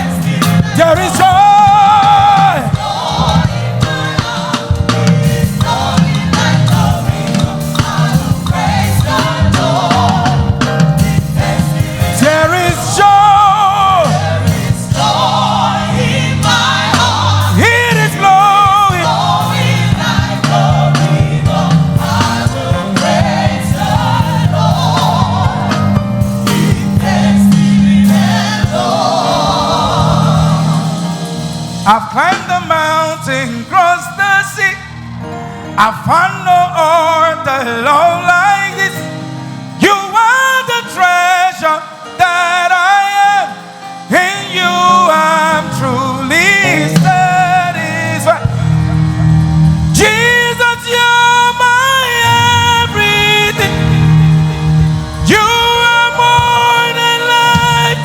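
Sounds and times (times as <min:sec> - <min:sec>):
lead singer singing: 0:00.0 - 0:49.0, 0:49.9 - 0:58.0
gospel band playing: 0:00.0 - 0:58.0.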